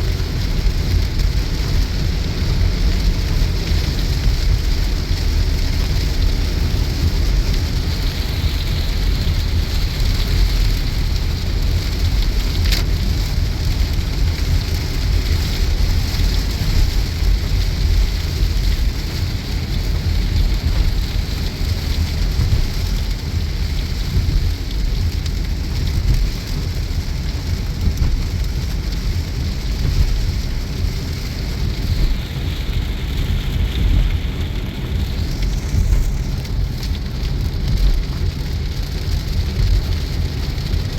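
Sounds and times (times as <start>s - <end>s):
car and tyres rumbling on wet road: 0.0s - 40.9s
heavy rain pelting a car: 0.0s - 40.9s.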